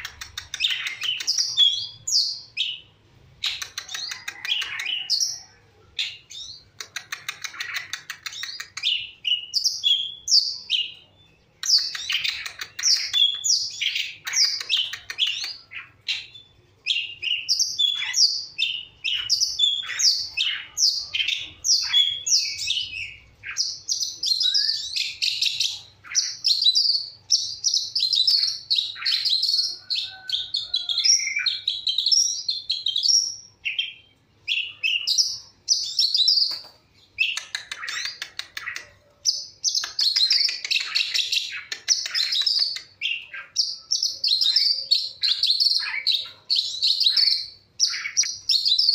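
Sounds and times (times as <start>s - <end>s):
shrike singing chirps and twitters: 0.0s - 48.9s.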